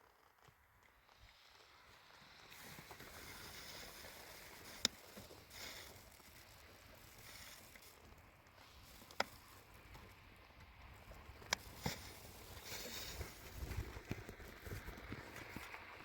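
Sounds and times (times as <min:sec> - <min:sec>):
faint rustling hiss: 0:01.0 - 0:16.0.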